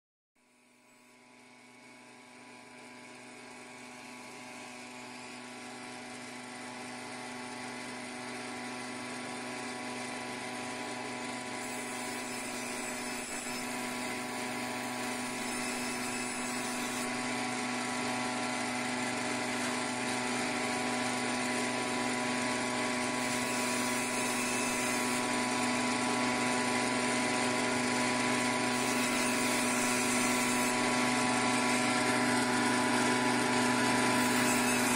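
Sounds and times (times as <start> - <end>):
band saw humming and whining: 0.6 - 34.9.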